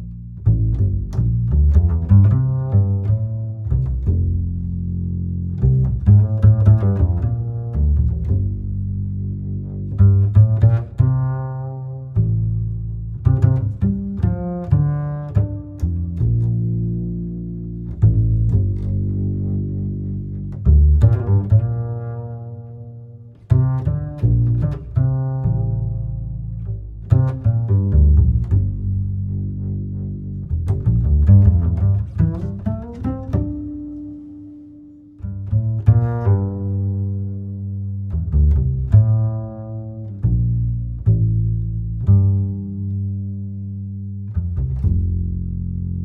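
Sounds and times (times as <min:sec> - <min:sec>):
plucked bass notes through amplifier: 0:00.0 - 0:46.0.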